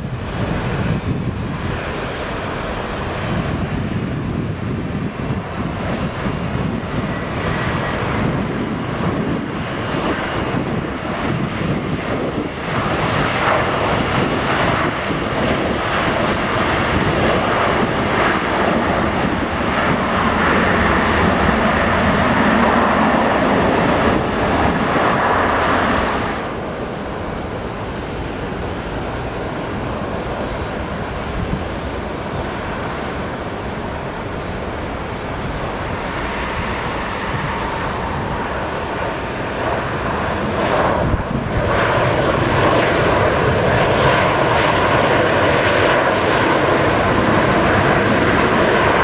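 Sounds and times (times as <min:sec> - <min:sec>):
jet airliner engines roaring: 0:00.0 - 0:49.0.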